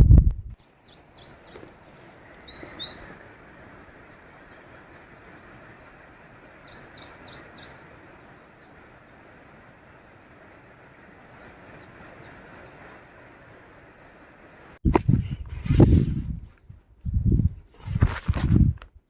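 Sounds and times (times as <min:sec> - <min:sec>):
faint outdoor hiss: 0:00.2 - 0:19.0
small birds chirping: 0:00.5 - 0:14.7, 0:16.3 - 0:18.0.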